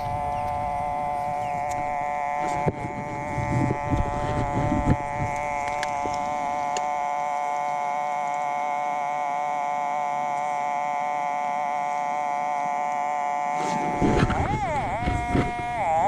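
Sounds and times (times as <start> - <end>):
metal detector buzzy tone: 0.0 - 16.0.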